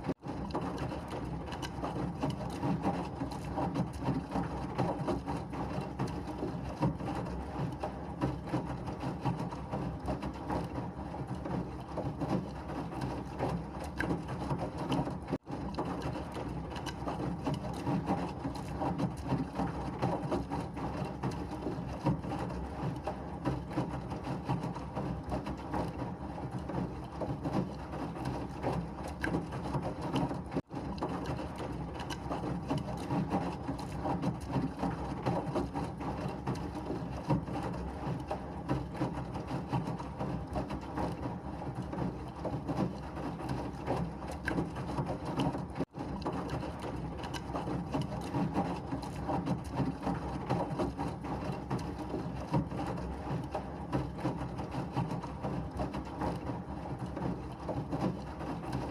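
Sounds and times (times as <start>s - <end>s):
washing machine rumbling: 0.0s - 58.9s.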